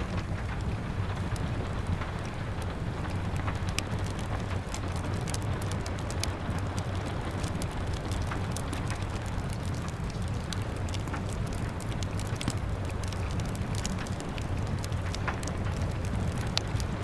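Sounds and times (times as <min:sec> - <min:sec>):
rain pattering on window glass: 0:00.0 - 0:17.0
wood fire crackling: 0:00.0 - 0:17.0.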